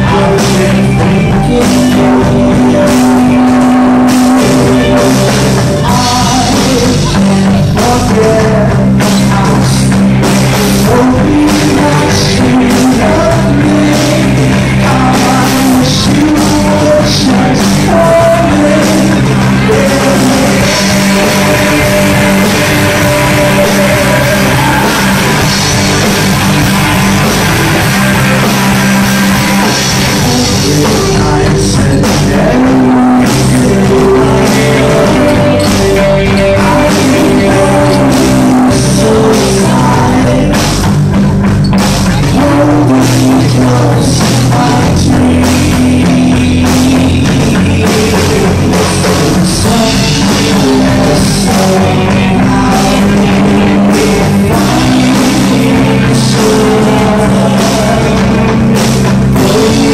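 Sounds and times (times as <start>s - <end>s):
drum hits: 0.0s - 59.9s
live rock band playing: 0.0s - 59.9s
man singing: 0.0s - 59.9s.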